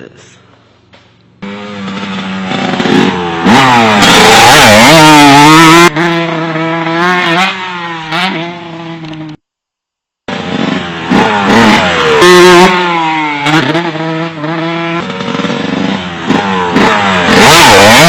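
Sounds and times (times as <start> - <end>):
dirt bike engine revving: 1.4 - 9.4, 10.3 - 18.0.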